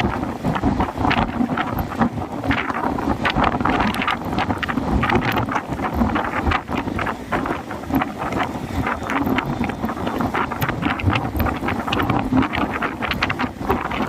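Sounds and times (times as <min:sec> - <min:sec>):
storm wind blowing on microphone: 0:00.0 - 0:14.0.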